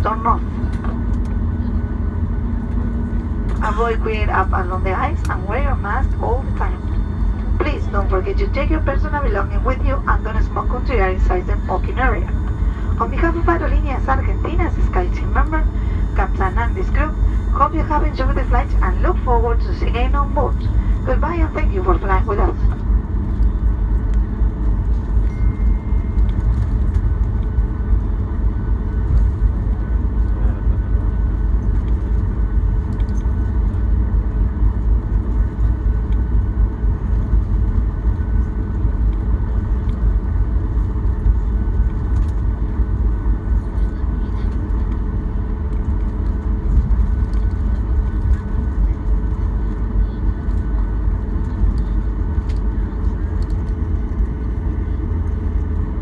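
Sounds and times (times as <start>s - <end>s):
aircraft cabin low rumble: 0.0s - 56.0s
faint hum: 0.0s - 56.0s.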